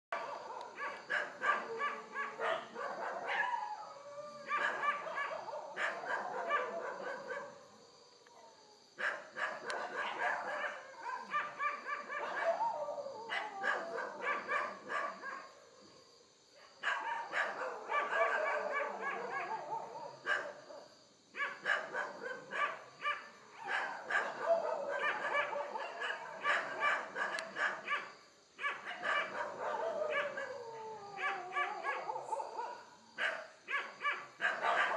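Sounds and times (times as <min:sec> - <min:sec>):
dogs barking: 0:00.1 - 0:03.7, 0:04.4 - 0:07.6, 0:09.0 - 0:15.5, 0:16.8 - 0:34.9
dogs howling: 0:00.2 - 0:07.6, 0:08.2 - 0:15.4, 0:16.8 - 0:20.8, 0:21.6 - 0:32.9, 0:33.7 - 0:34.9.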